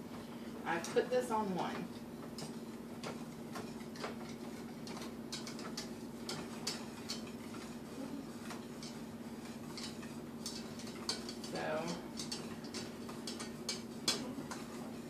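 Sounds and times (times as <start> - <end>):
steady low hum: 0.0 - 15.0
utensil scraping metal saucepan: 2.4 - 15.0.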